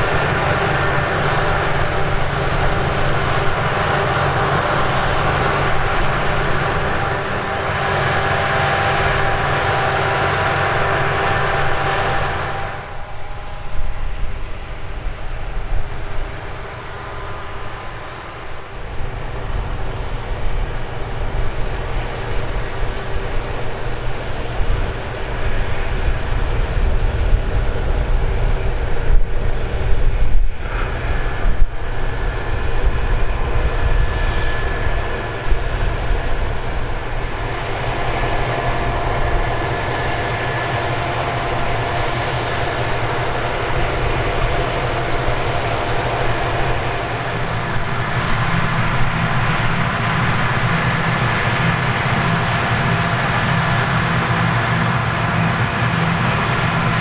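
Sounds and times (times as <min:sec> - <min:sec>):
combine harvester engine hum: 0:00.0 - 0:57.0
machinery whining tones: 0:00.0 - 0:57.0.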